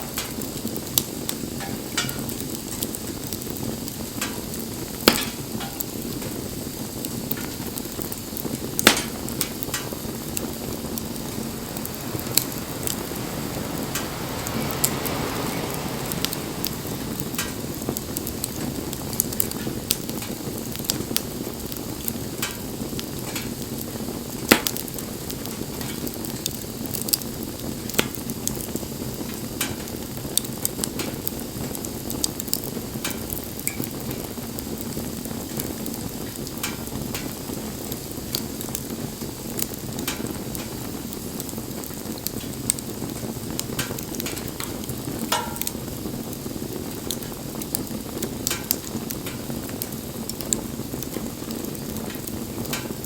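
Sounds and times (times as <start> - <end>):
fire crackling and popping: 0.0 - 53.0
rush of flame: 0.0 - 53.0.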